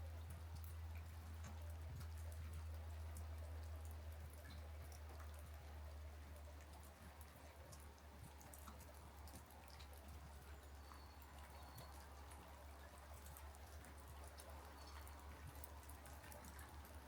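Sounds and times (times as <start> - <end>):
raindrops pattering: 0.0 - 17.0.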